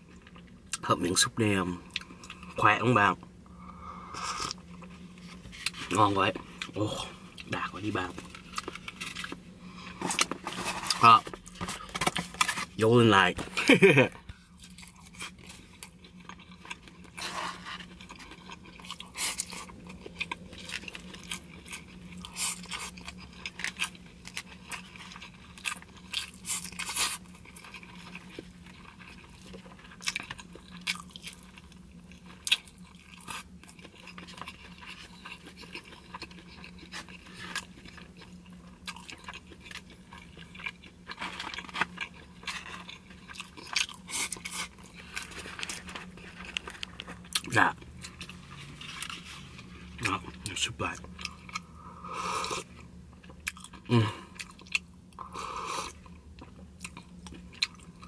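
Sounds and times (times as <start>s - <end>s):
chewing with crunches: 0.0s - 2.8s, 3.7s - 12.9s, 13.5s - 58.0s
steady low hum: 0.0s - 58.0s.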